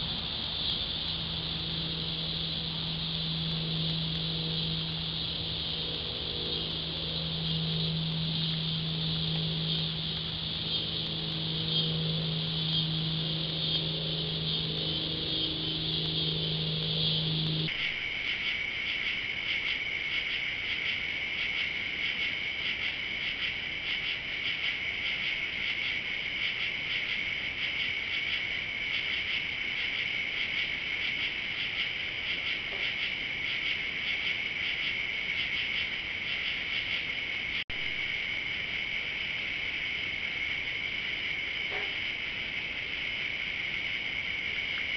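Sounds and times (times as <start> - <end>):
insects chirping: 0.0 - 44.9
low steady hum: 0.0 - 44.9
rapidly pulsing insect chorus: 0.0 - 44.9.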